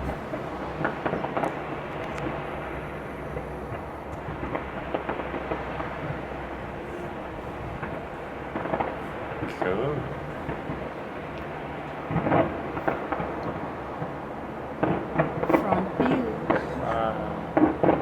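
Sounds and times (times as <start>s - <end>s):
distant fireworks rumble and crackling: 0.0s - 18.0s.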